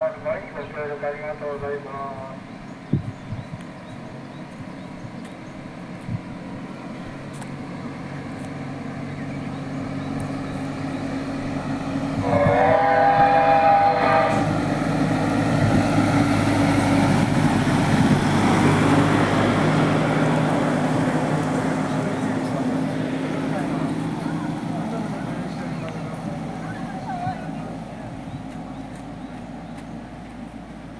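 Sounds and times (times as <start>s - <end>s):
train passing: 0.0s - 30.9s.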